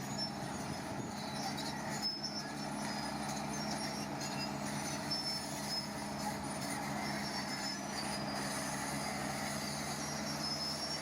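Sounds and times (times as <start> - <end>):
heavy machine diesel engine running: 0.0 - 11.0
high metallic squeaks: 0.0 - 11.0.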